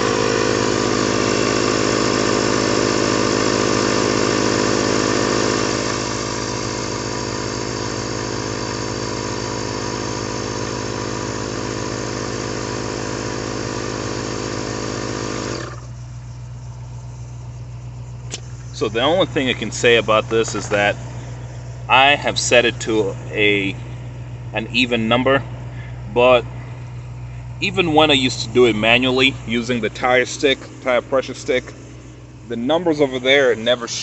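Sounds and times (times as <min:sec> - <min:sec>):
tire inflator compressor running: 0:00.0 - 0:34.0.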